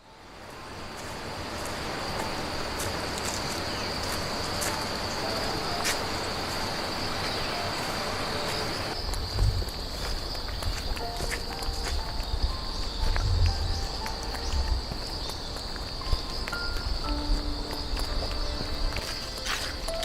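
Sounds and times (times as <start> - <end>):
insects singing: 0.0 - 20.0.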